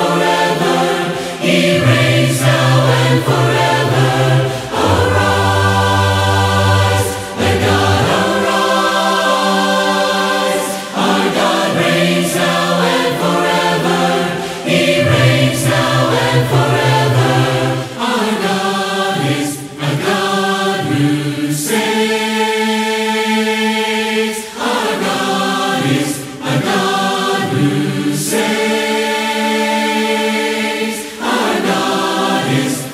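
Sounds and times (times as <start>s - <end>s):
voices singing a hymn a cappella: 0.0s - 32.9s.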